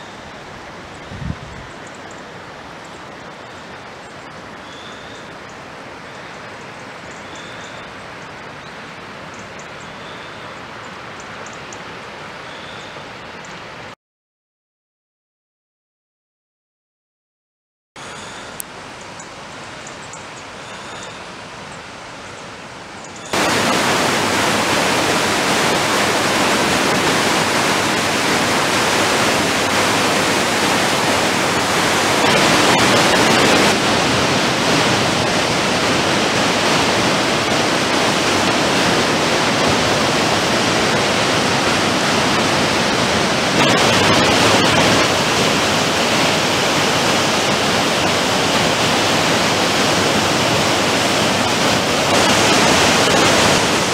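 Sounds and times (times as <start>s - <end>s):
quiet water hiss: 0.0s - 13.8s, 18.0s - 53.8s
river rushing: 0.0s - 14.0s, 18.0s - 53.9s.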